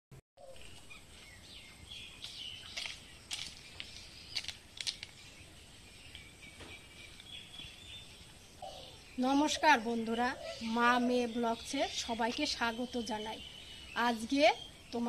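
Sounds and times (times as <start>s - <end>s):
birds chirping and whistling: 0.4s - 15.0s
quiet rural background noise: 0.4s - 15.0s.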